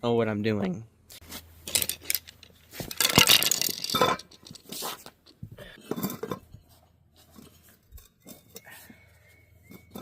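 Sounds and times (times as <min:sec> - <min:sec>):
tire and rim handling noise: 0:01.2 - 0:10.0.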